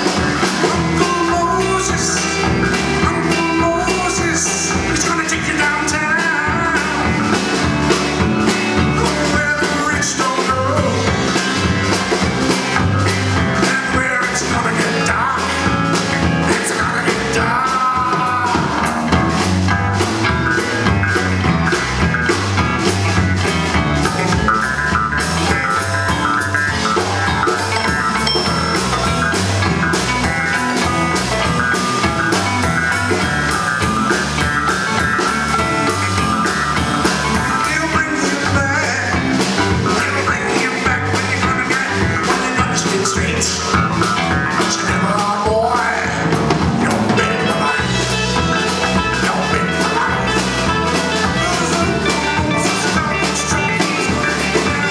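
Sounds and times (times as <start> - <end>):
drum kit beat: 0.0 - 54.9
rock band playing: 0.0 - 54.9.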